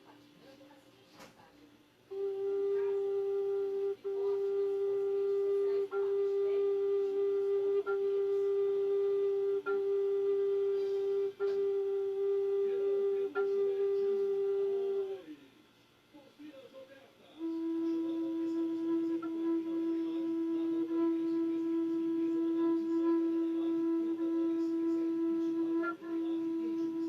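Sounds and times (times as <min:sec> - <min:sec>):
flute holding a steady note: 0:02.1 - 0:15.6, 0:17.2 - 0:27.0.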